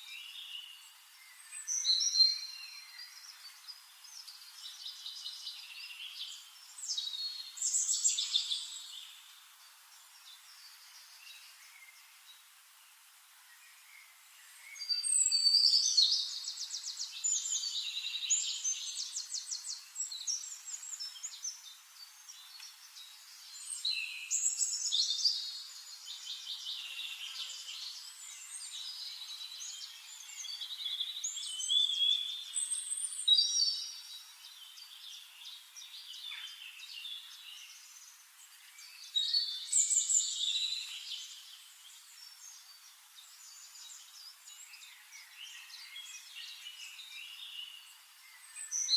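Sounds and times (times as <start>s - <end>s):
faint steady hiss: 0.0s - 48.9s
songbirds trilling and chirping: 0.0s - 48.9s.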